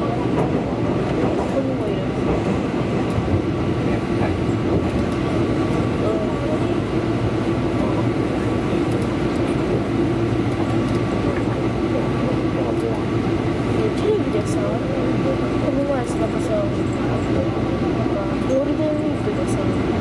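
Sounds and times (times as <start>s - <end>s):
steady train hum: 0.0s - 20.0s
train wheels rumbling: 0.0s - 20.0s.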